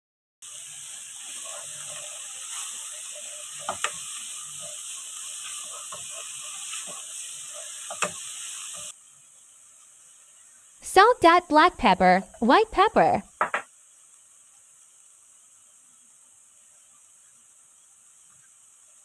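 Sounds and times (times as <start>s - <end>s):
vegetables sizzling in a pan: 0.4s - 11.6s, 12.2s - 19.0s.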